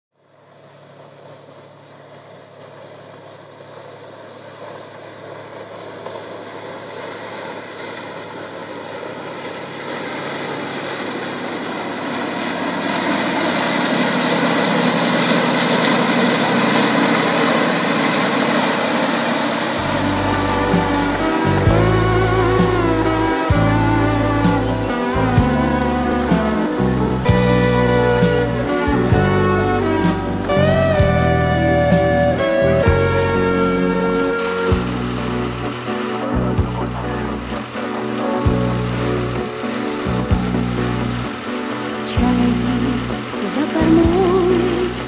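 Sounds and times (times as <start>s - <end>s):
hydrofoil diesel engine: 0.1s - 45.0s
rush of boat wake: 0.2s - 45.0s.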